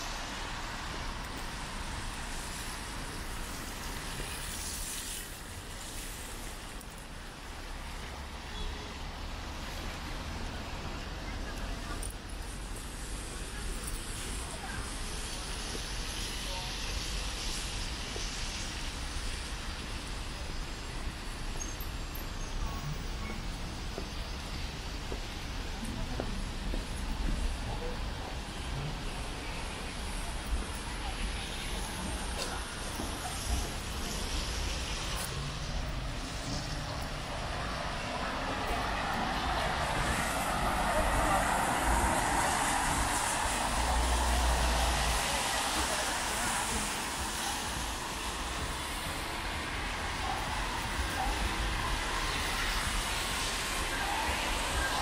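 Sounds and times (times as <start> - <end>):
rain hiss: 0.0 - 55.0
traffic on wet road: 0.0 - 55.0.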